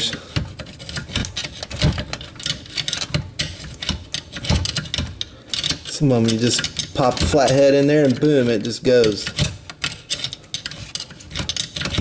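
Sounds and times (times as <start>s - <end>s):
screwdrivers scraping metal teeth: 0.0s - 12.0s.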